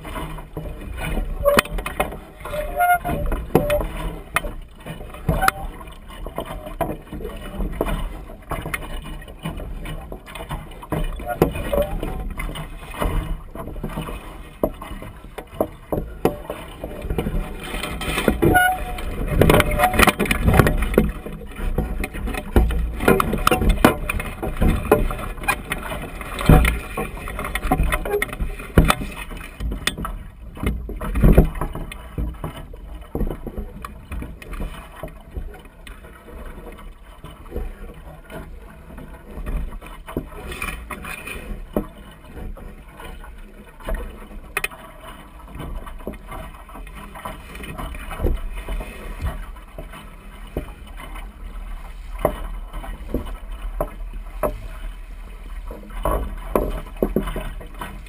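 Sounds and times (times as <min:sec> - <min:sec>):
water slapping against hull: 0:00.0 - 0:58.0.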